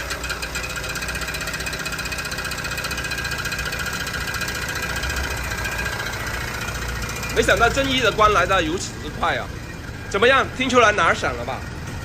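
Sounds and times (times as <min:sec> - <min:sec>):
car engine idling: 0:00.0 - 0:12.0
fast metallic rattle: 0:00.0 - 0:12.0.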